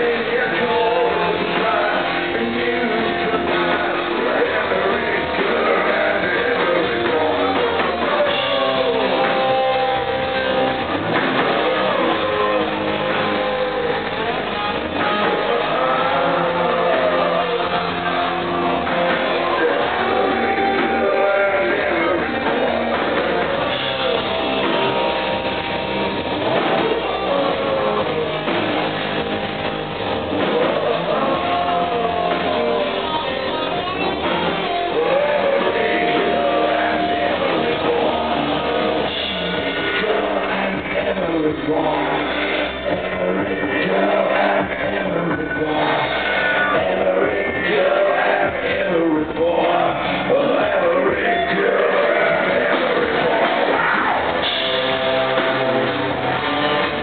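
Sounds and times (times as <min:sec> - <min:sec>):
drum kit: 0:00.0 - 0:57.0
electric guitar: 0:00.0 - 0:57.0
keyboards: 0:00.0 - 0:57.0
lead vocals singing: 0:00.0 - 0:57.0.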